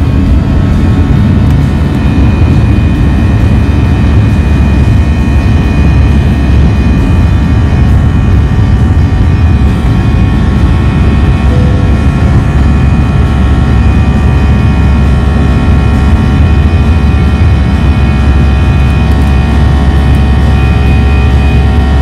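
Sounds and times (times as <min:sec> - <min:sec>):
drone of steady tones: 0:00.0 - 0:22.0
loud low rumble: 0:00.0 - 0:22.0.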